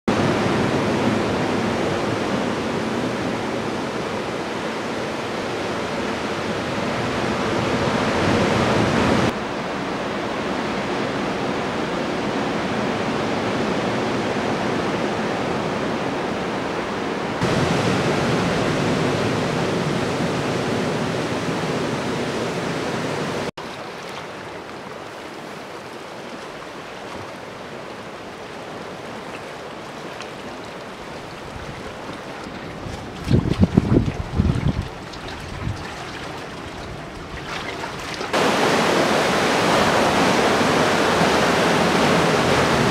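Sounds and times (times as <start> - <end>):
ocean surf on rocks: 0.1 - 42.9.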